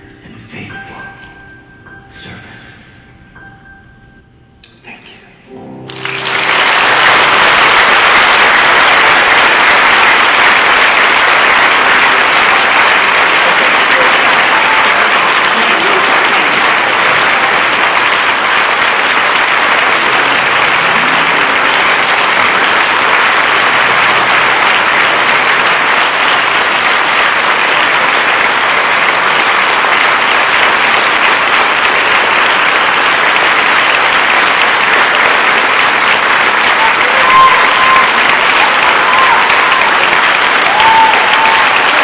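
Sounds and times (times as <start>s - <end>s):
audience applauding: 5.7s - 42.0s.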